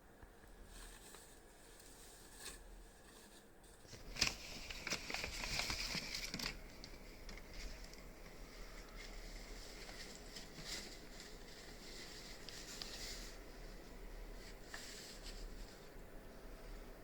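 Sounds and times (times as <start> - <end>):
plastic packaging rustling: 0.4 - 16.9.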